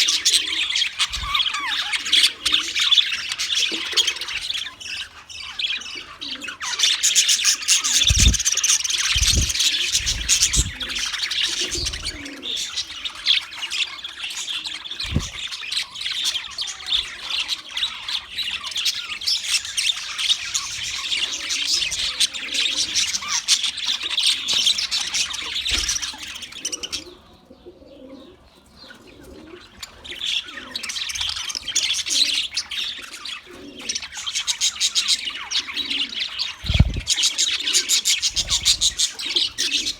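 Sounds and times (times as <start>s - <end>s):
budgerigars chattering and chirping: 0.0s - 27.2s, 27.9s - 39.9s.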